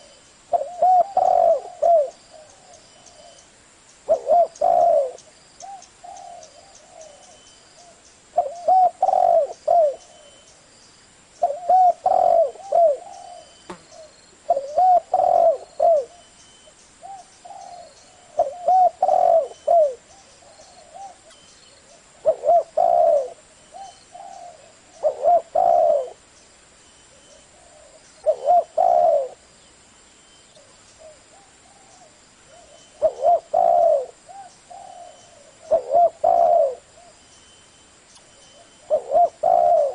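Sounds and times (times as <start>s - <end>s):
dove cooing: 0.0s - 3.4s, 4.1s - 10.4s, 11.4s - 16.3s, 17.0s - 26.2s, 27.1s - 29.4s, 30.6s - 37.2s, 38.5s - 39.9s.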